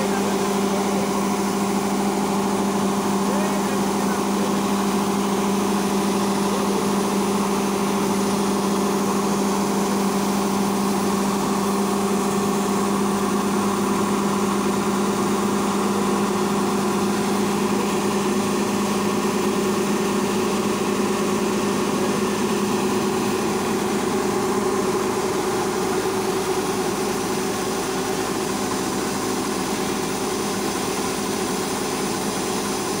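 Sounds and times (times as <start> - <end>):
harvester engine droning: 0.0 - 33.0.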